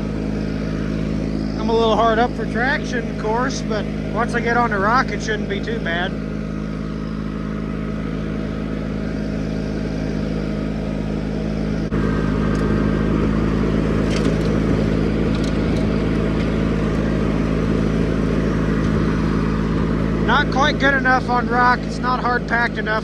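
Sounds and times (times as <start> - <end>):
garden tractor engine running: 0.0 - 23.0.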